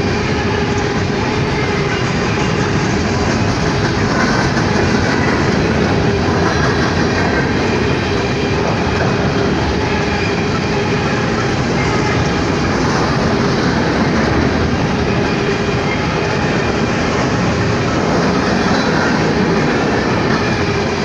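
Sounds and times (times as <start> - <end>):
clickety-clack over rail joints: 0.0 - 21.0
freight train wheels on rails: 0.0 - 21.0.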